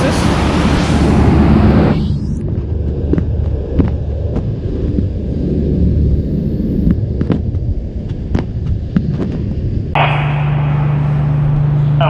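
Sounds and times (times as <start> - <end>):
low rumble of drydock work: 0.0 - 12.0.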